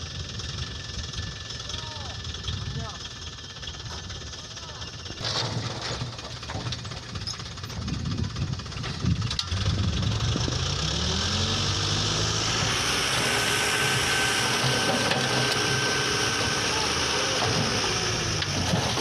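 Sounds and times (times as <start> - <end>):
truck engine revving: 3.4 - 19.0.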